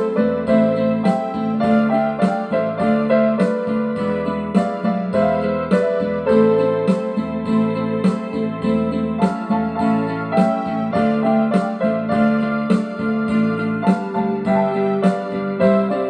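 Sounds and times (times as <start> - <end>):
electronic keyboard melody: 0.0 - 16.0.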